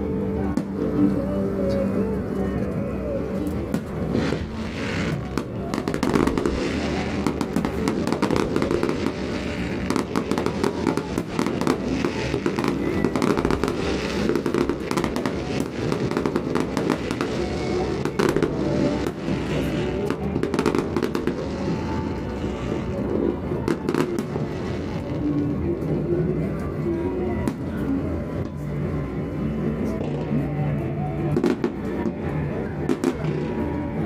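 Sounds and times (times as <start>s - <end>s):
fireworks crackling and popping: 3.4s - 28.4s, 31.2s - 34.0s.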